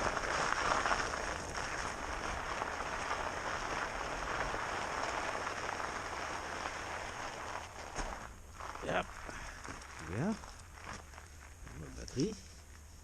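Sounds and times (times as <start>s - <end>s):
bike tyres rolling: 0.0s - 13.0s.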